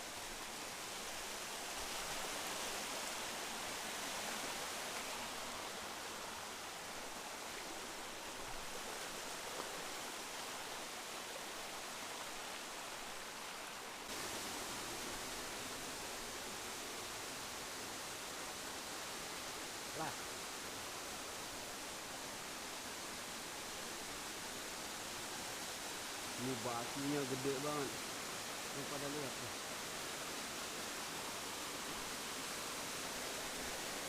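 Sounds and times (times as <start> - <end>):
rushing river water: 0.0 - 34.0.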